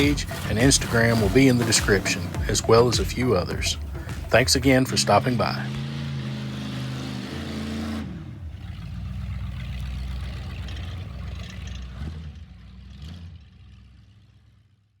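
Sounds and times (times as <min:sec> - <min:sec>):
pickup engine idling: 0:00.0 - 0:14.8.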